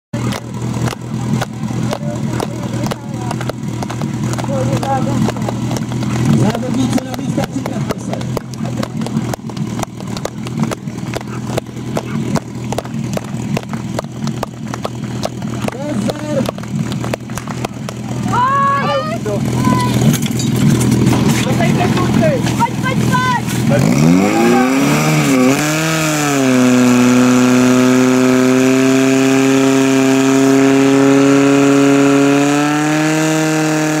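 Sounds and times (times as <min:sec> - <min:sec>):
small engine idling: 0:00.2 - 0:34.0.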